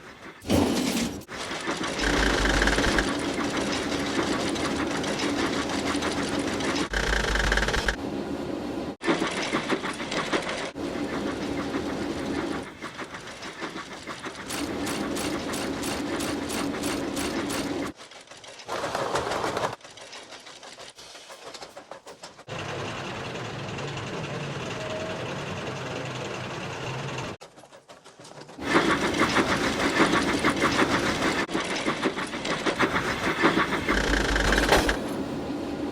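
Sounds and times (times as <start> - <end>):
model train clattering on rails: 0.0 - 8.0, 9.0 - 25.0, 25.8 - 35.5.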